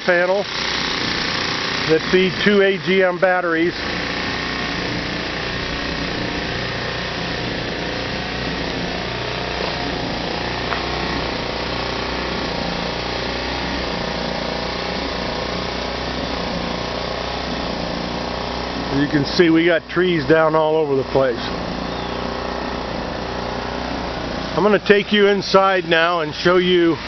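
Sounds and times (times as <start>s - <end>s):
portable generator running: 0.0s - 27.0s.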